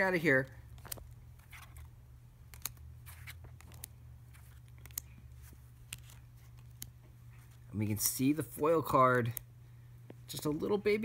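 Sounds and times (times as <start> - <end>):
low steady hum: 0.0 - 11.0
cards flipping and sliding: 0.6 - 9.5.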